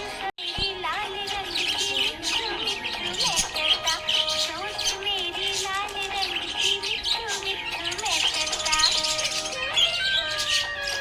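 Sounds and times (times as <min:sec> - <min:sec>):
background music: 0:00.0 - 0:11.0
budgerigars chirping: 0:00.4 - 0:11.0.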